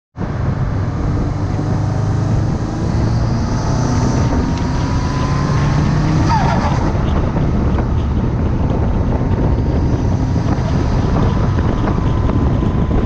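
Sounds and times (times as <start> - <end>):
car engine running: 0.2 - 13.0
wind rushing over microphone: 0.2 - 13.0
thin rising whine: 0.9 - 13.0.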